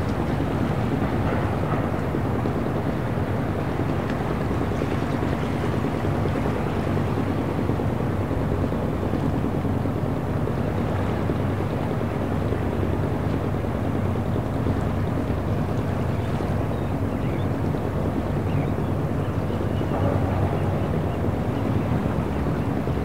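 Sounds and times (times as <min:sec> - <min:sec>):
boat engine humming: 0:00.0 - 0:23.0
harbour water wash: 0:00.0 - 0:23.0.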